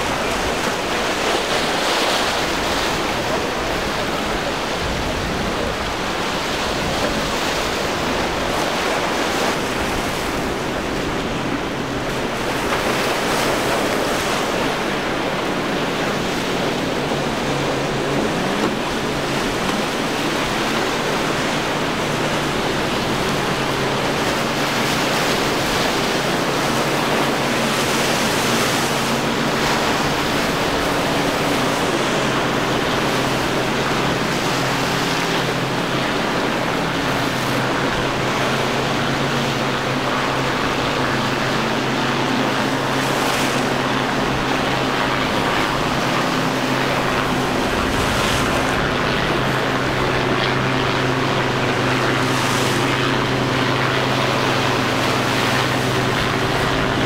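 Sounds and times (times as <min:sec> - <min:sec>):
boat engines droning: 0:00.0 - 0:57.0
waves breaking: 0:00.0 - 0:57.0
wind on microphone: 0:00.0 - 0:57.0.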